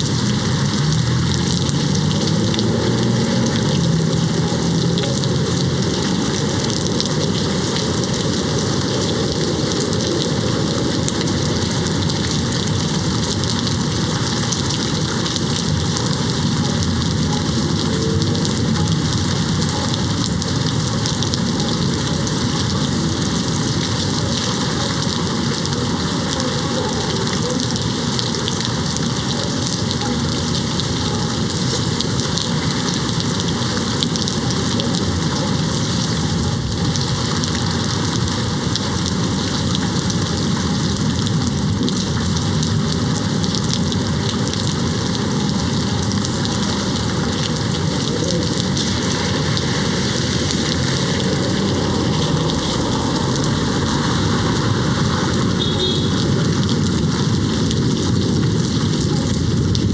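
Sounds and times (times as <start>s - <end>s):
rain hitting a window: 0.0s - 59.9s.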